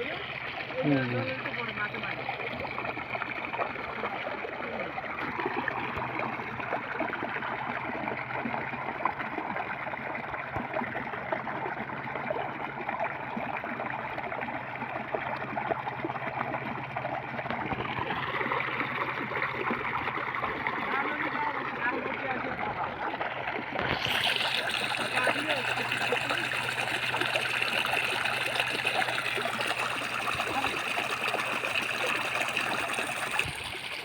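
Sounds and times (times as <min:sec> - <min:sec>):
rushing pattering water: 0:00.0 - 0:34.0.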